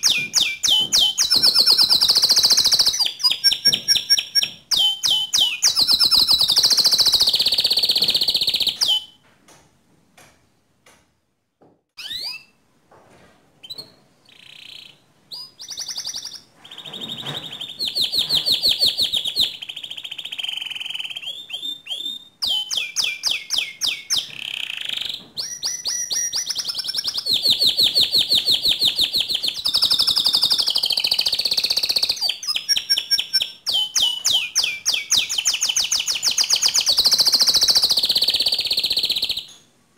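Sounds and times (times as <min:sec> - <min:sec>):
canary trilling song: 0:00.0 - 0:09.2, 0:12.0 - 0:12.6, 0:13.6 - 0:39.7.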